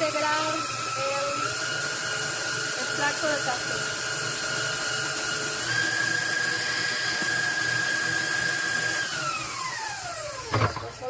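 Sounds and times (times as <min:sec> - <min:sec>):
stand mixer motor whine: 0:00.0 - 0:11.0.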